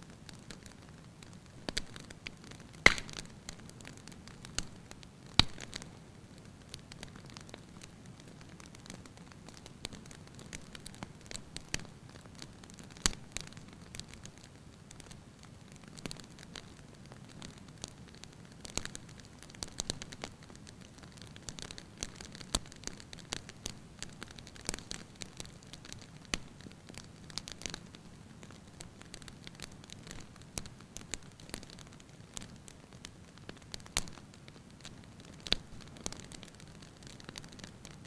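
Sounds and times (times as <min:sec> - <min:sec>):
soft steady fire hiss: 0:00.0 - 0:38.0
wood fire crackling and popping: 0:00.0 - 0:38.0.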